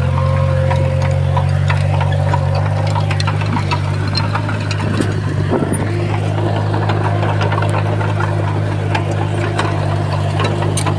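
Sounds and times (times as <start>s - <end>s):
bulldozer diesel engine running: 0.0s - 10.9s
sharp clicks and clanks: 0.0s - 10.9s.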